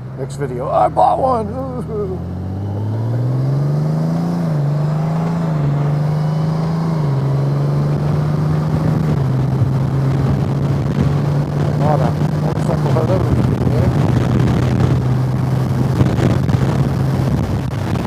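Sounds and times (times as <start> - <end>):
motorcycle engine running: 0.0 - 18.0
wind rush: 2.1 - 18.0.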